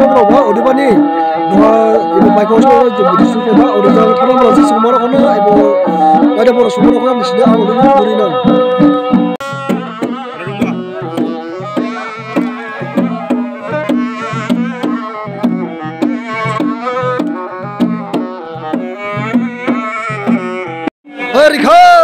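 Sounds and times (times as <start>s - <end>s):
hand drum beating: 0.0s - 20.9s.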